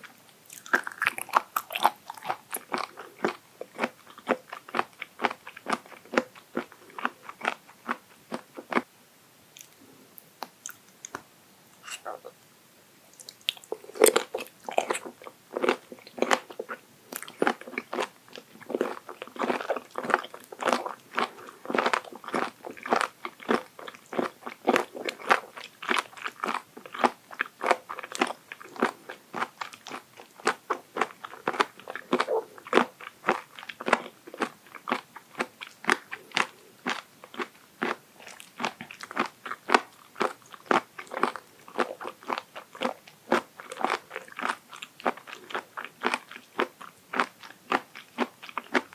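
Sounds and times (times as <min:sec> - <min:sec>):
crisp chewing crunches: 0:00.0 - 0:08.8, 0:13.2 - 0:48.9.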